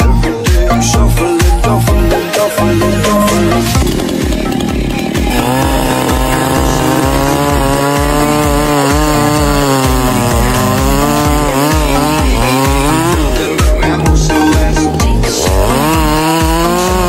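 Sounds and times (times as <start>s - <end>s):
background music with steady beat: 0.0s - 17.0s
chainsaw cutting log: 0.7s - 17.0s.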